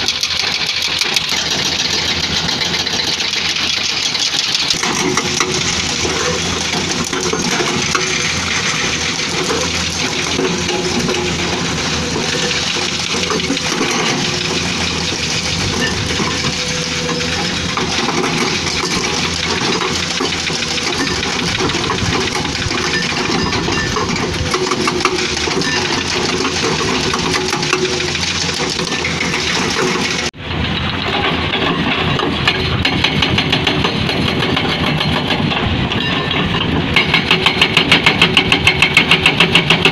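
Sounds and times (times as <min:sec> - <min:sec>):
excavator diesel engine running: 0:00.0 - 0:39.9
hydraulic rock breaker hammering: 0:00.0 - 0:39.9.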